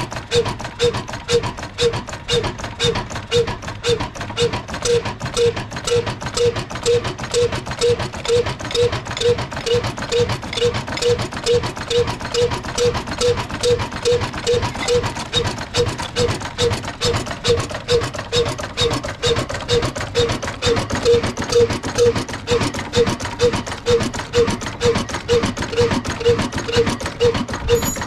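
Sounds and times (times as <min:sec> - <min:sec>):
slow diesel engine knocking: 0:00.0 - 0:28.0.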